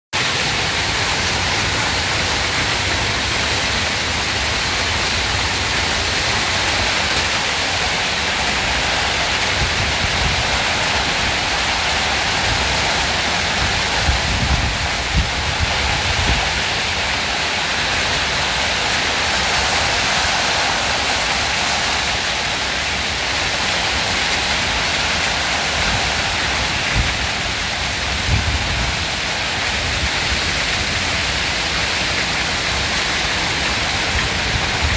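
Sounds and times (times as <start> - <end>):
hail and heavy rain pelting: 0.2 - 34.9.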